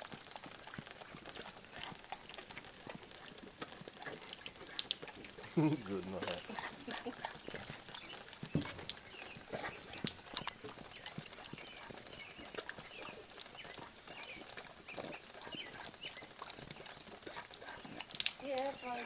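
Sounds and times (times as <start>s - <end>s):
dog sniffing and licking: 0.0s - 19.0s.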